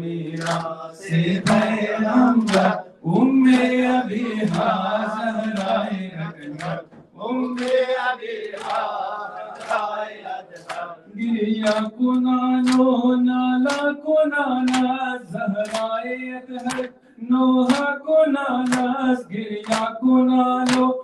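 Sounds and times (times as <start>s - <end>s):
man chanting through a microphone: 0.0s - 21.0s.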